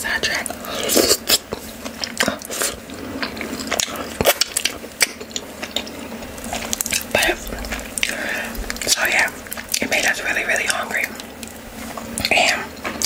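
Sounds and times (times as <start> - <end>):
wet chewing and lip smacks: 0.4 - 13.0.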